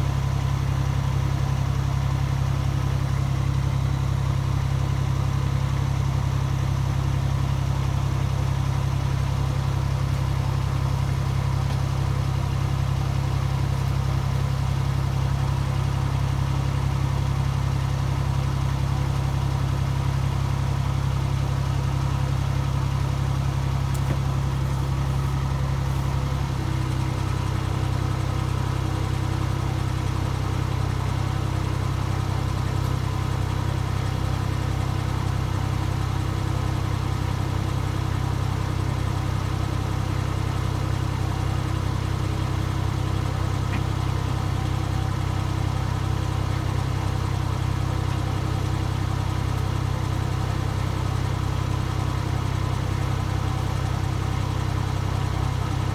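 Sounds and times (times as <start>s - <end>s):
locomotive engine idling: 0.0s - 55.9s.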